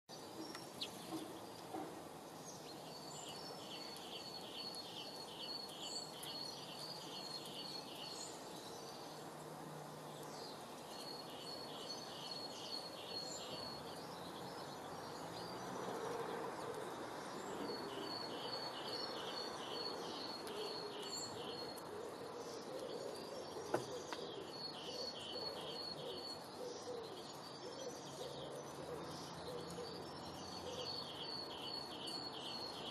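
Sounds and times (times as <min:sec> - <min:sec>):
outdoor background hiss: 0:00.1 - 0:32.9.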